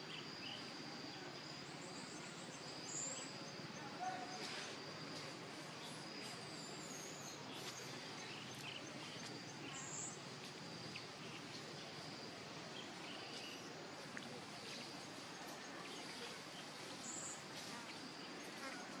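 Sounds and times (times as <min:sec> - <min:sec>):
high insect tone: 0:00.0 - 0:19.0
steady low hiss: 0:00.0 - 0:19.0.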